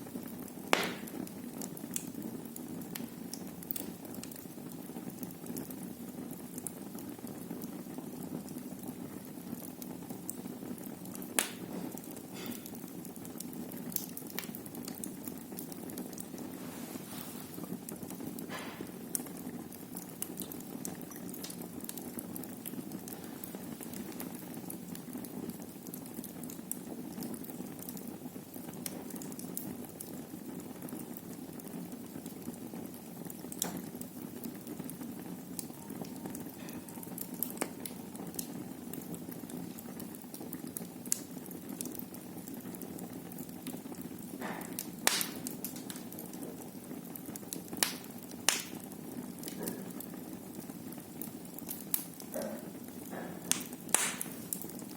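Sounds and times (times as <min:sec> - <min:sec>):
fire crackling and popping: 0:00.0 - 0:54.9
low rush of flames: 0:00.0 - 0:54.9.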